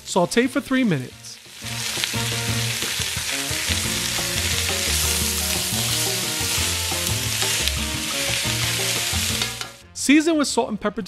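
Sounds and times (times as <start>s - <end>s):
vegetables and meat sizzling: 0.0s - 9.8s
background music with bass: 0.0s - 11.0s.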